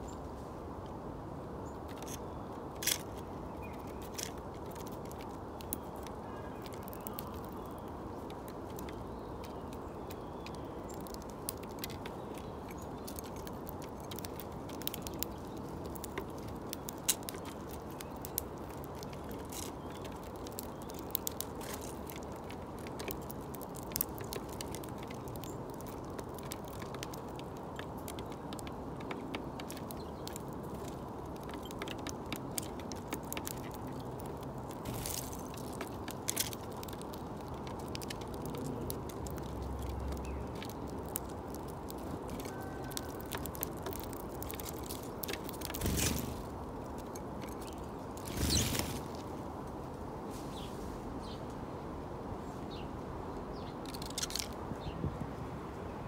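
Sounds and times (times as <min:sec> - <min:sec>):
low background noise: 0:00.0 - 0:56.0
birds pecking clicks: 0:01.7 - 0:49.3, 0:53.6 - 0:54.9.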